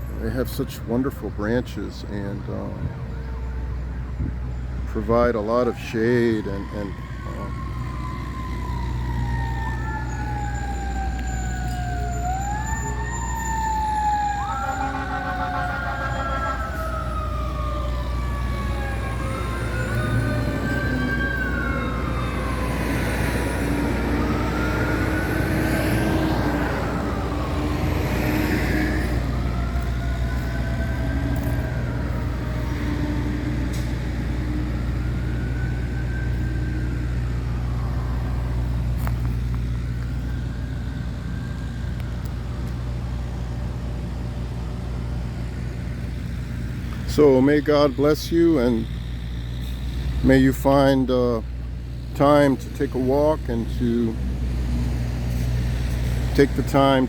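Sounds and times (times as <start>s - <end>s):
emergency vehicle siren wailing: 0.0s - 57.0s.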